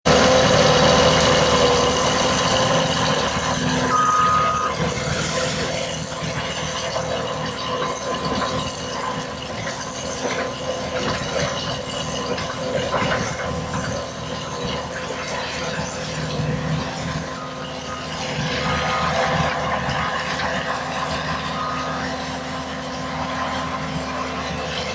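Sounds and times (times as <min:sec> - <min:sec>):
skid steer loader engine: 0:00.0 - 0:24.9.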